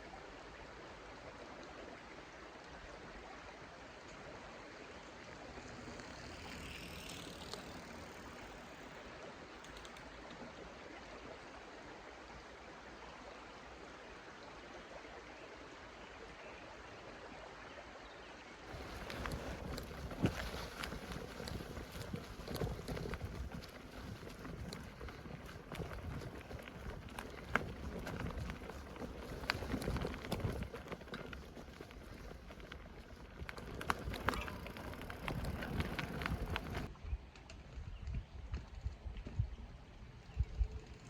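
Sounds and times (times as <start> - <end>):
stream running: 0.0 - 36.9.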